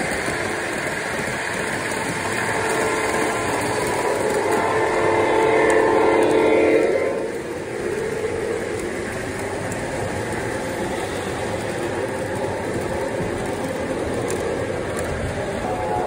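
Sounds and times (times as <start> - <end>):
model train wheels rumbling: 0.0 - 16.0.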